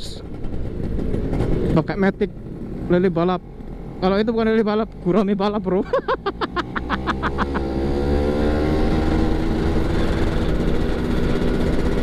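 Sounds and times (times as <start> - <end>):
two-stroke engine accelerating: 0.0 - 12.0.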